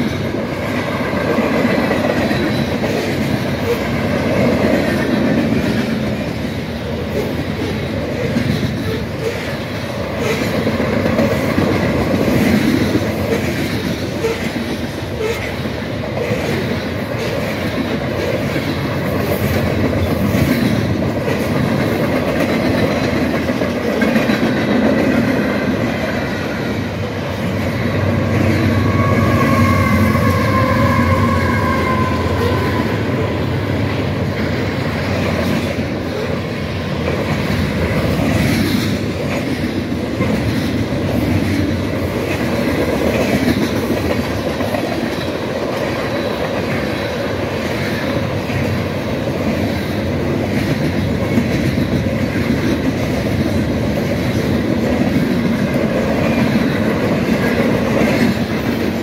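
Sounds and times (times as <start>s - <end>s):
freight train cars rumbling: 0.0s - 59.0s.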